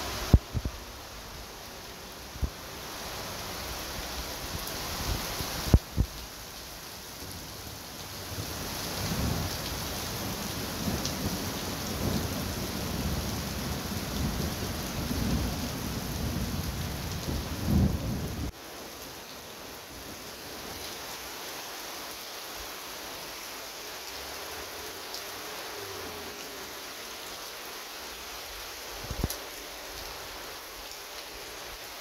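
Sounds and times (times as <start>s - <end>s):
heavy rain hissing: 0.0s - 32.0s.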